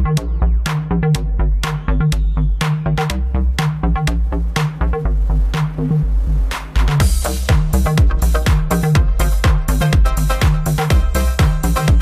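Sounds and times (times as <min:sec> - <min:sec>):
electronic music with bass: 0:00.0 - 0:12.0.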